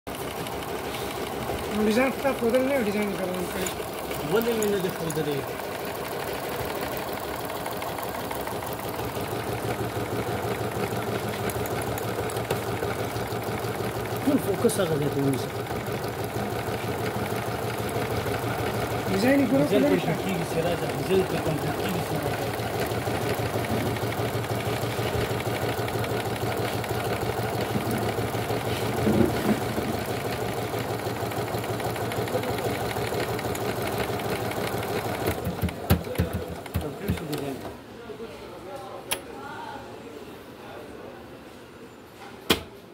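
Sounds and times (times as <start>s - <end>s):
sewing machine clattering: 0.1s - 37.7s.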